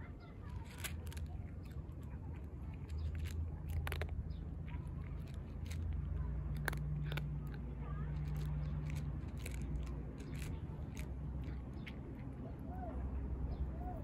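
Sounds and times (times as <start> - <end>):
cat crunching dry kibble: 0.0 - 12.7.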